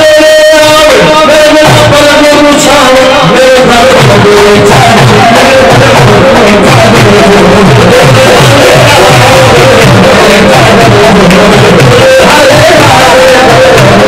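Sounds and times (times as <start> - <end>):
person singing: 0.0 - 14.0
steady drum beat: 0.0 - 14.0.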